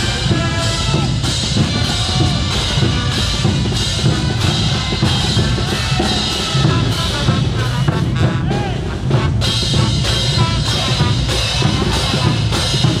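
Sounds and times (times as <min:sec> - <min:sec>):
drums keeping a steady beat: 0:00.0 - 0:13.0
marching brass band playing: 0:00.0 - 0:13.0.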